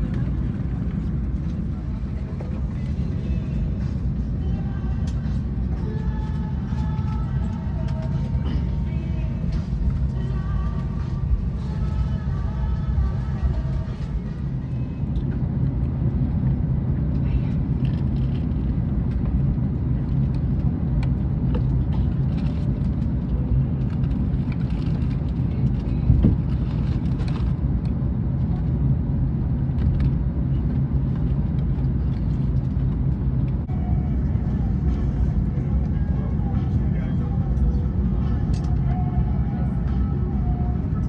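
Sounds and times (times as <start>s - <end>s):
airplane cabin air rumble: 0.0s - 41.0s.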